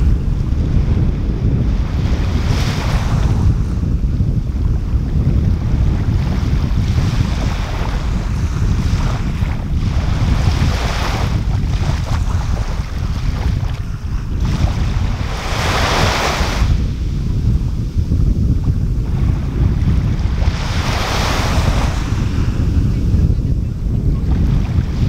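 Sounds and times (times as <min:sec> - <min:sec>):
small waves washing on sand: 0:00.0 - 0:25.0
wind rumble on microphone: 0:00.0 - 0:25.0.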